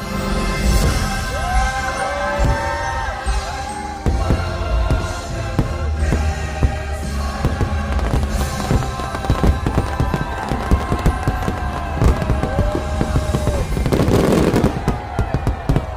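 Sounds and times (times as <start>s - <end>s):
loud show music: 0.0s - 15.8s
fireworks bangs and crackles: 0.6s - 15.9s.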